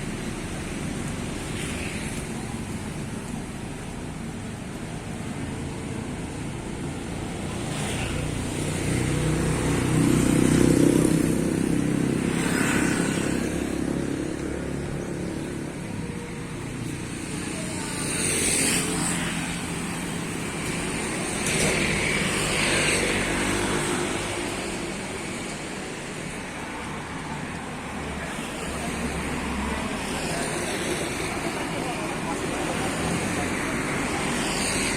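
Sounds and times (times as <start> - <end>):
steady traffic rumble: 0.0 - 34.9
vehicles passing: 0.0 - 34.9.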